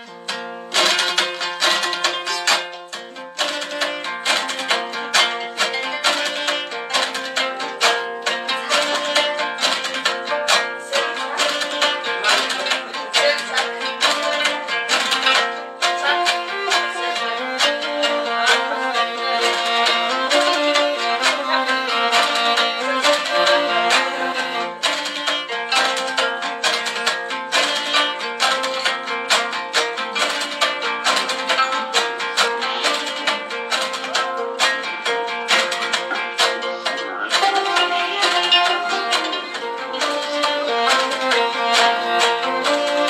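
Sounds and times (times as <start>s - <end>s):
bowed fiddle long notes: 0.0s - 43.0s
plucked lute and zither: 0.0s - 43.0s.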